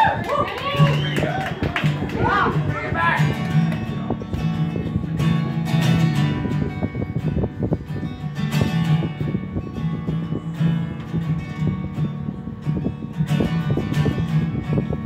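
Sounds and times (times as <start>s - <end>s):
acoustic guitar strumming: 0.7s - 15.0s.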